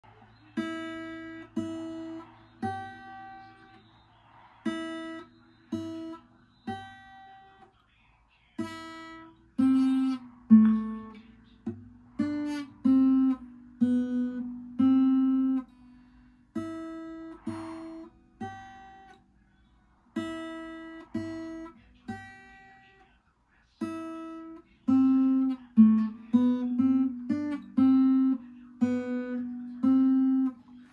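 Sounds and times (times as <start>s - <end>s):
acoustic guitar playing: 0.0s - 7.7s, 8.6s - 23.2s, 23.8s - 30.9s.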